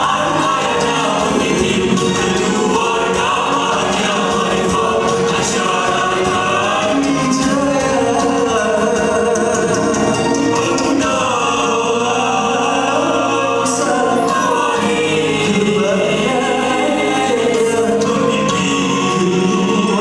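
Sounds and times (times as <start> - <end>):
vocal group singing in harmony: 0.0 - 20.0.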